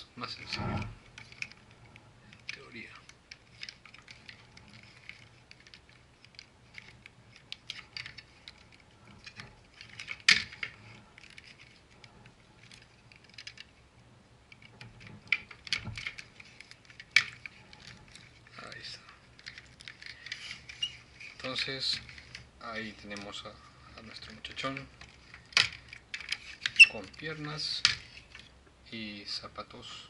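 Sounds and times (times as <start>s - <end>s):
plastic parts clicking and tapping: 0.4s - 13.8s, 14.5s - 28.5s.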